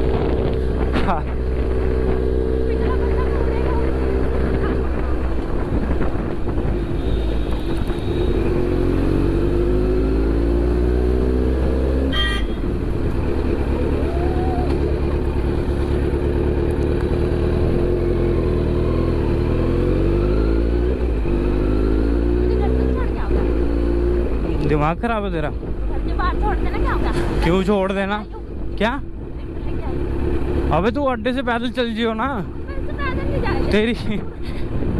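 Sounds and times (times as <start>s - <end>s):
motorcycle engine revving: 0.0s - 25.0s, 29.2s - 34.9s.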